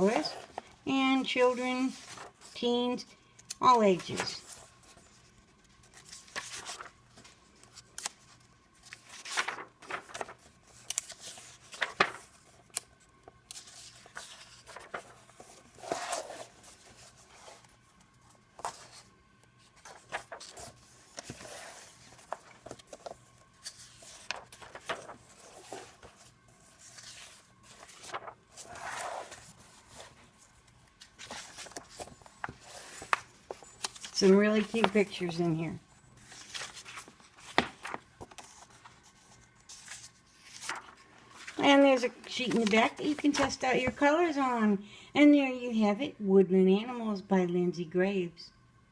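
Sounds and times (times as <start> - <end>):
book pages turning: 0.0 - 2.8, 3.4 - 44.1.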